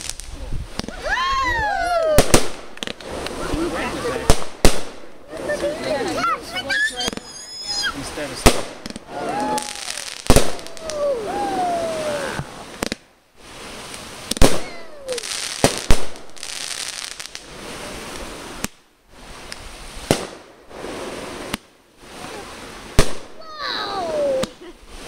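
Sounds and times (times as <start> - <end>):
fireworks bangs: 0.0 - 25.0
fireworks crackling and hiss: 0.0 - 25.0.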